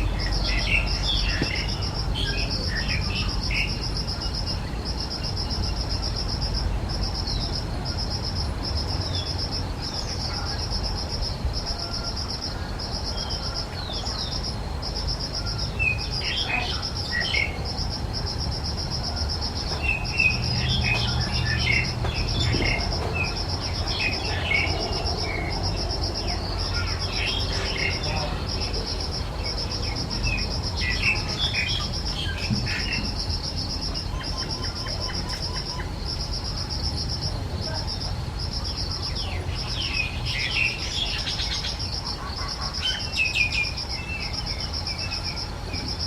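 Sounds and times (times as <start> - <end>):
insect trilling: 0.0 - 46.0
small birds chirping: 0.0 - 46.0.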